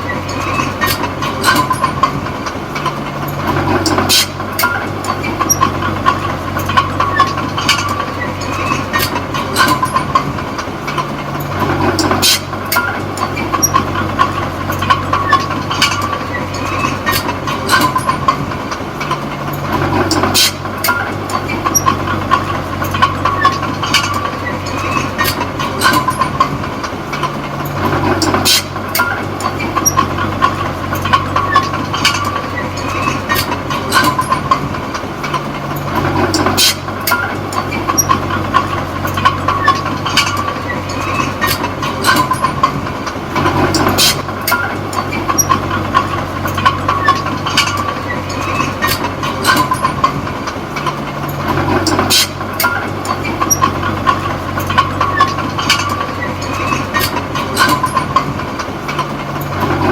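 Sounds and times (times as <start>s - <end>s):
bulldozer diesel engine working: 0.0s - 59.9s
metallic clanks from tracks: 0.0s - 59.9s.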